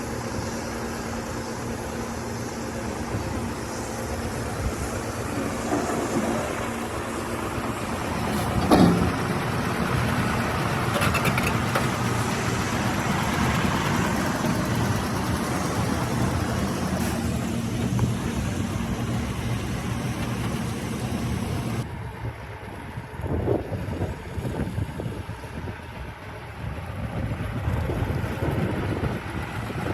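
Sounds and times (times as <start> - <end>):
excavator diesel engine running: 0.0 - 24.4.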